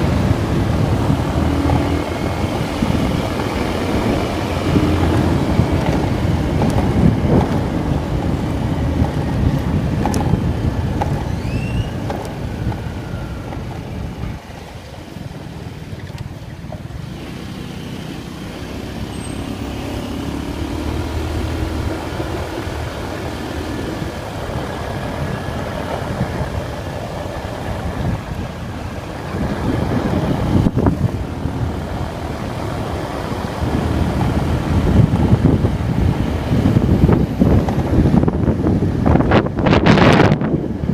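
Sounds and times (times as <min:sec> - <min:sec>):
motorcycle engine revving: 0:00.0 - 0:15.9, 0:16.9 - 0:40.5
wind on microphone: 0:00.0 - 0:17.3, 0:18.7 - 0:40.9.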